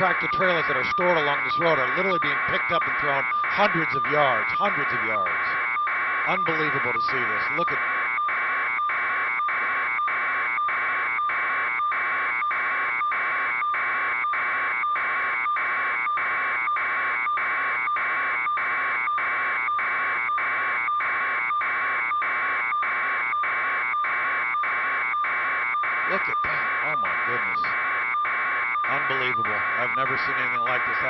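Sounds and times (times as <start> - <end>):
pulsing electronic alarm buzz: 0.0 - 31.0.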